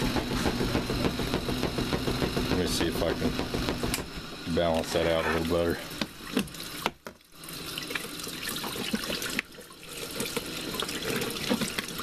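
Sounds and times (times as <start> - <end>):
water rushing into washing machine tub: 0.0 - 12.0.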